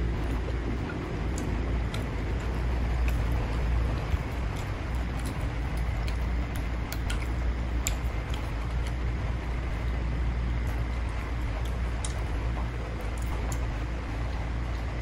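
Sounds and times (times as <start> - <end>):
eating clicks: 0.0 - 15.0
low rumble: 0.0 - 15.0.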